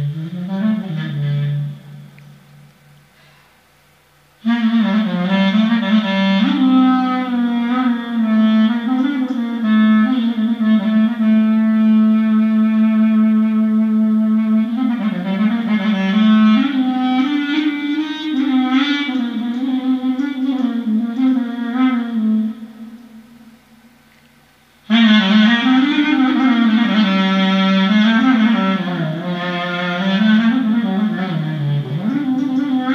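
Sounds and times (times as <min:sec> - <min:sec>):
solo clarinet improvisation: 0:00.0 - 0:03.4, 0:04.3 - 0:24.2, 0:24.8 - 0:32.9.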